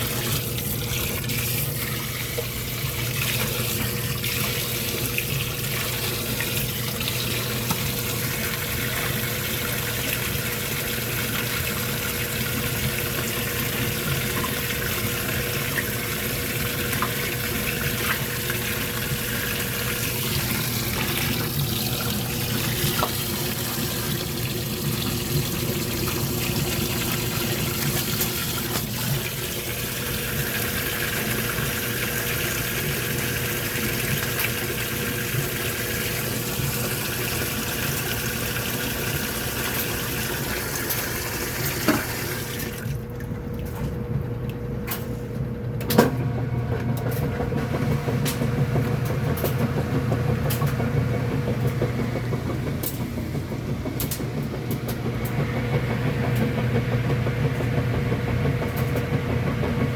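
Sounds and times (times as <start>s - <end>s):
water rushing into washing machine: 0.0s - 59.9s
washing machine knock: 2.8s - 43.0s, 45.9s - 59.9s
low motor hum: 11.1s - 59.9s.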